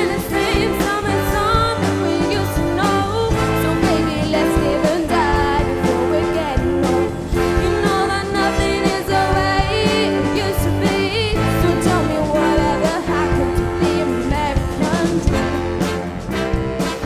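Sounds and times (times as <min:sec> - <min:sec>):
woman singing: 0:00.0 - 0:16.0
bass guitar: 0:00.0 - 0:17.0
drum kit: 0:00.0 - 0:17.0
trumpets and trombones: 0:00.0 - 0:17.0.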